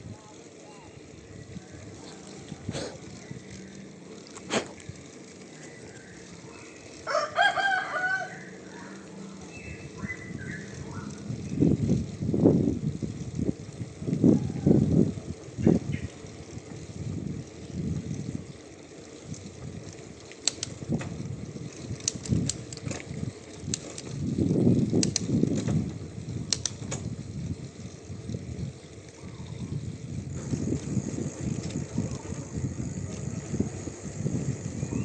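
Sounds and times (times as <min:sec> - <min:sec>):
bicycle tyre rumble: 0:00.0 - 0:35.0
bike clicks and rattles: 0:00.0 - 0:35.0.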